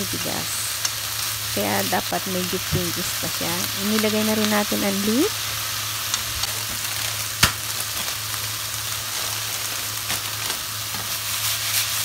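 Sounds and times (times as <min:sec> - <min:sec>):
vegetables and meat sizzling in pan: 0:00.0 - 0:12.0.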